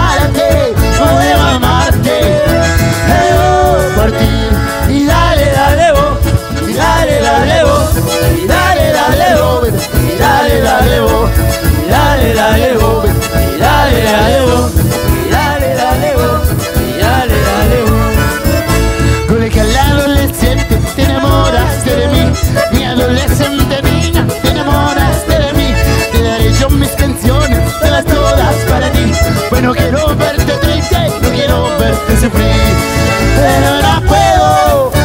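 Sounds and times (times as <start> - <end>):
accordion melody: 0.0 - 35.0
live band playing: 0.0 - 35.0.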